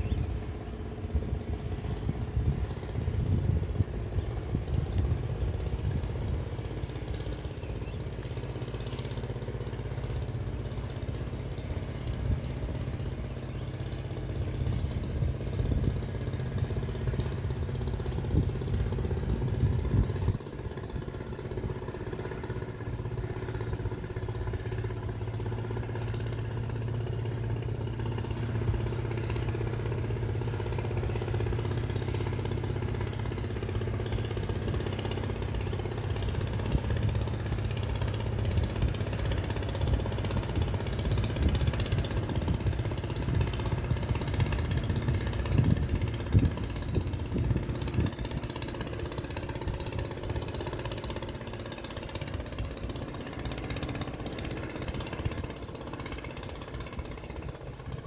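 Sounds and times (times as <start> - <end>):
engine idling: 0.0 - 58.0
wind buffeting microphone: 0.0 - 58.0.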